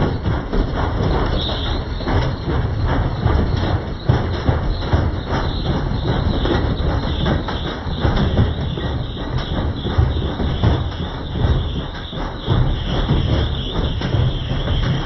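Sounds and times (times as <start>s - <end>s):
washing machine drum rattling: 0.0s - 15.0s.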